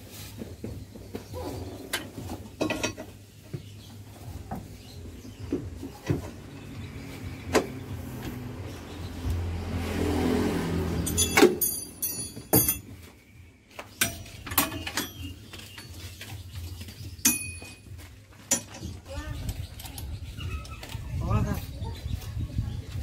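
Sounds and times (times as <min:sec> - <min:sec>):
vehicle noise: 0:00.0 - 0:23.0.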